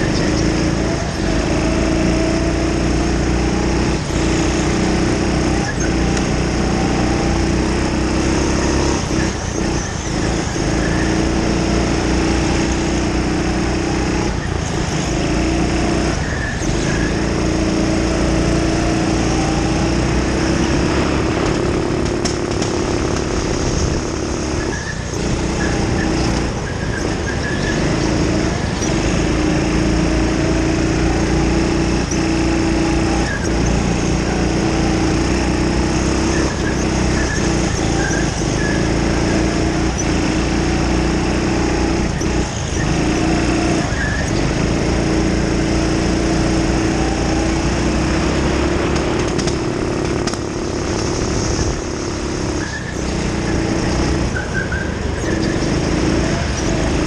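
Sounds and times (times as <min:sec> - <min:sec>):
go-kart engine at high revs: 0:00.0 - 0:57.0.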